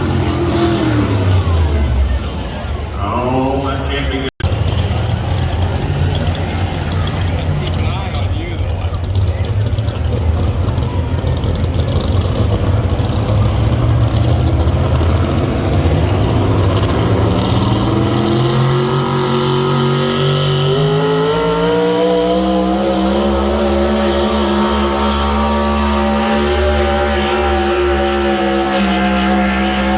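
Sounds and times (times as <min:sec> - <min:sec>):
vehicle engine running rough: 0:00.0 - 0:29.9.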